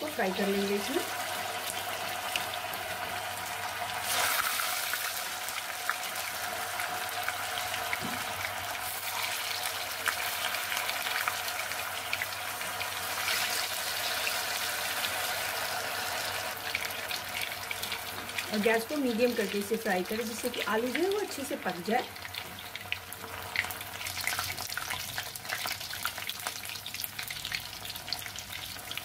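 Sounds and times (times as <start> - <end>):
food deep-frying in oil: 0.0 - 29.0.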